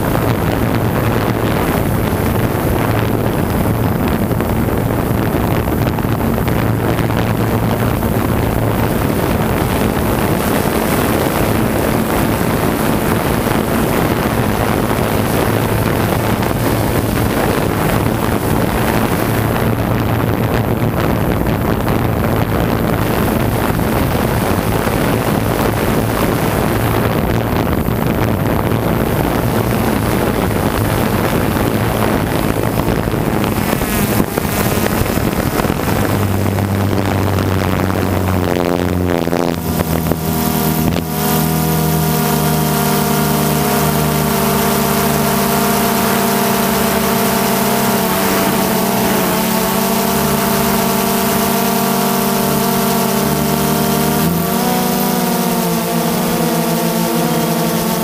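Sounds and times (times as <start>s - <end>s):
drone motors humming: 0.0s - 58.0s
wind on microphone: 0.0s - 58.0s.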